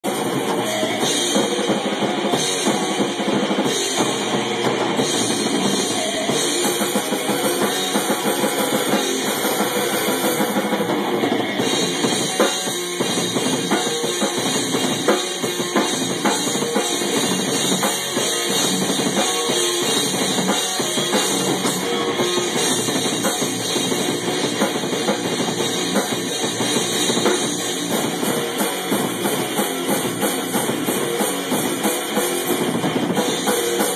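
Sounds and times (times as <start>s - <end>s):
drum kit: 0.0s - 33.9s
electric guitar: 0.0s - 33.9s
rock band playing: 0.0s - 33.9s.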